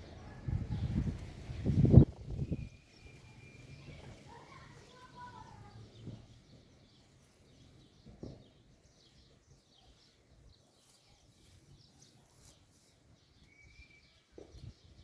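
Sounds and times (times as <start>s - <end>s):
faint small bird chirps: 0.2s - 15.0s.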